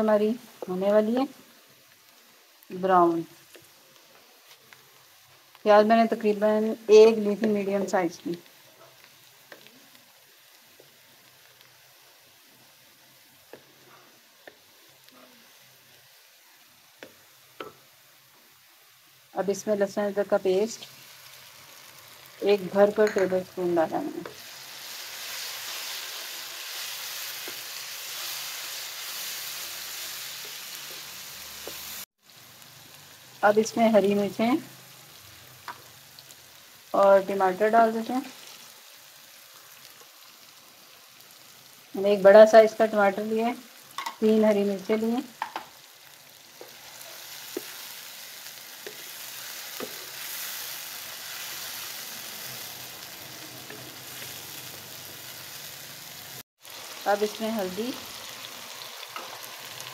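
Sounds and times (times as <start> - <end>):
onions sizzling in hot oil: 0.0 - 59.9.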